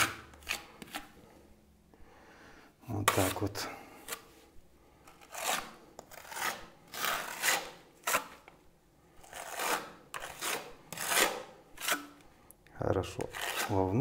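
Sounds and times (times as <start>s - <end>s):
spatula scraping plaster: 0.0s - 1.5s, 3.0s - 12.3s, 12.9s - 14.0s.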